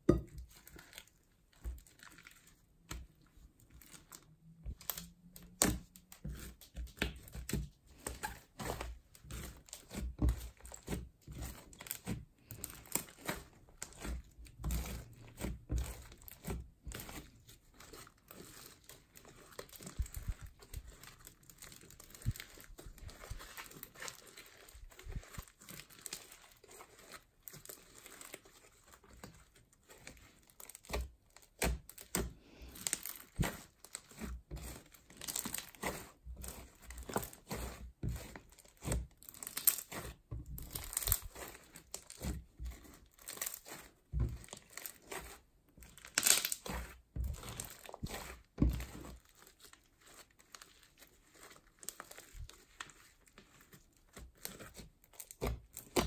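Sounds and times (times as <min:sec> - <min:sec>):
slime crackling and popping: 0:00.1 - 0:56.0.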